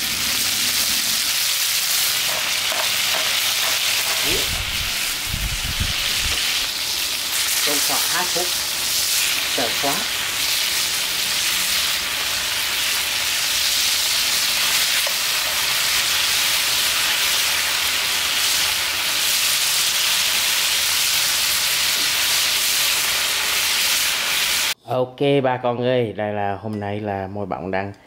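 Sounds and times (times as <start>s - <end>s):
steak sizzling in hot oil: 0.0s - 24.8s.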